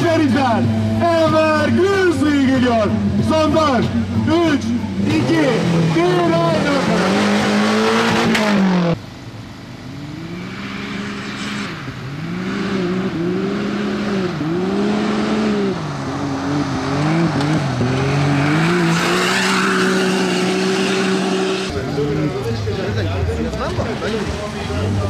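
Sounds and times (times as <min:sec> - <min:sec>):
loud engine rev: 0:00.0 - 0:09.0, 0:09.9 - 0:22.3
buggy engine revving: 0:00.0 - 0:25.0.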